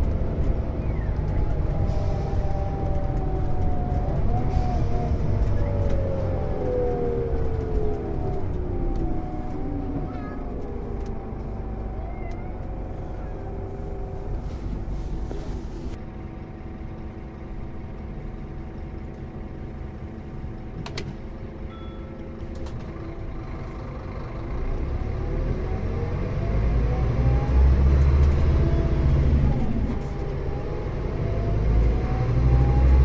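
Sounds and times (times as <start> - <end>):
bus engine running: 0.0 - 33.0.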